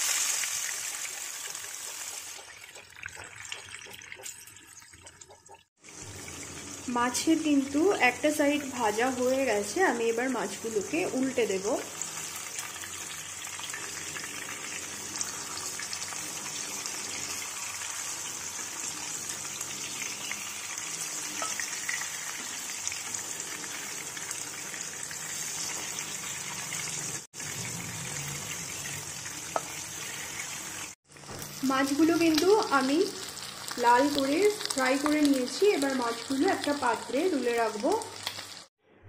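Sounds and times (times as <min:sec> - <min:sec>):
fish sizzling in hot oil: 0:00.0 - 0:04.9, 0:05.5 - 0:38.7.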